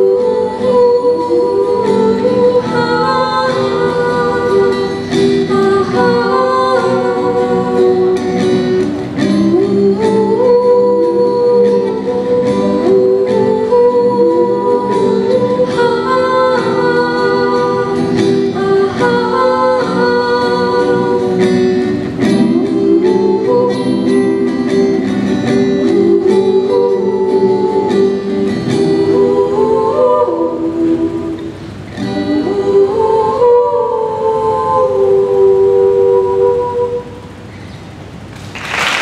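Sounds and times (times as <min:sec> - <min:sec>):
girls singing into microphones: 0:00.0 - 0:37.5
picked acoustic guitar: 0:00.0 - 0:38.5.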